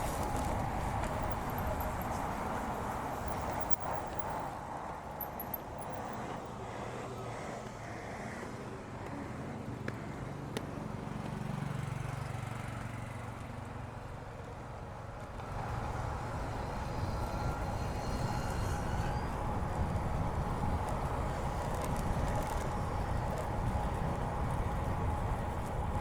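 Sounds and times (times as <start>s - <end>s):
bike tyre and wind noise: 0.0s - 12.1s, 12.8s - 26.0s.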